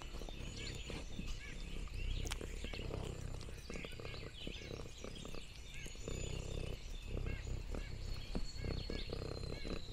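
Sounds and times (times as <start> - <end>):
cat purring: 0.0 - 9.9.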